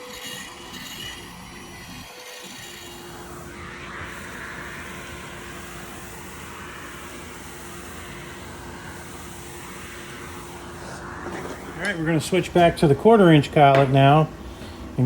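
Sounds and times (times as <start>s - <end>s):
bit cutting wood hiss: 0.0s - 13.6s
router spindle whine: 0.0s - 15.0s.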